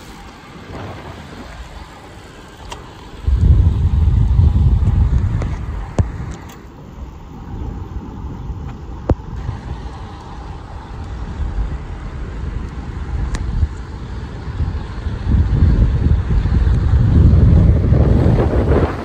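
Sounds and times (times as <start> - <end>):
bicycle road noise: 0.0 - 19.0
wind rumbling on microphone: 0.0 - 19.0.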